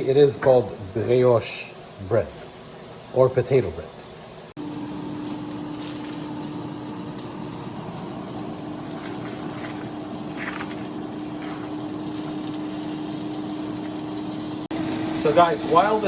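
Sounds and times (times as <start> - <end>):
burgers sizzling in a pan: 0.0 - 16.0.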